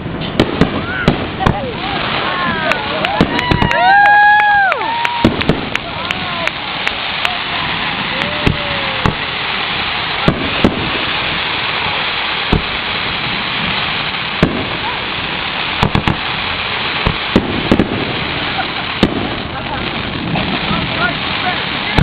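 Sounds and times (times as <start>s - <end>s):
fireworks bangs: 0.0s - 22.0s
fireworks hiss: 0.0s - 22.0s
firework whistle: 0.2s - 22.0s.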